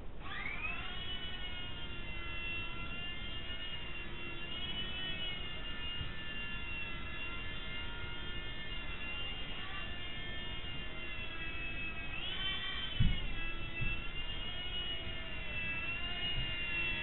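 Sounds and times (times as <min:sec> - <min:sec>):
model helicopter rotor whine: 0:00.2 - 0:17.0.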